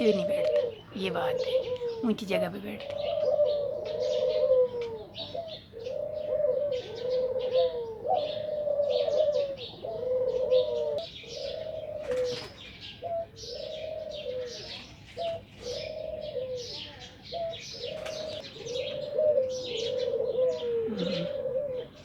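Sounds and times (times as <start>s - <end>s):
doves cooing: 0.0s - 22.0s
small birds chirping: 0.0s - 22.0s.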